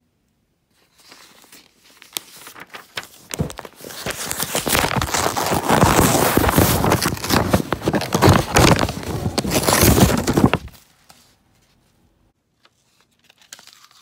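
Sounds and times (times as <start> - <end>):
paper crumpling and tearing: 0.8 - 10.9, 12.6 - 14.0.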